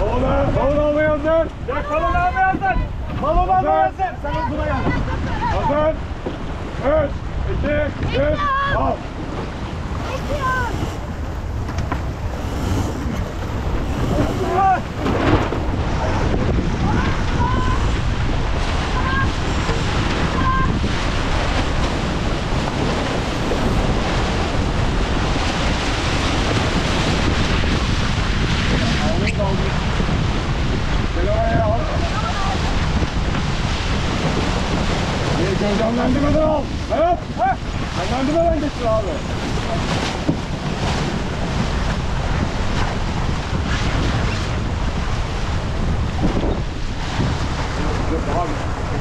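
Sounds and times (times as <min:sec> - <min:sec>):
water rushing along hull: 0:00.0 - 0:49.0
wind noise on microphone: 0:00.0 - 0:49.0.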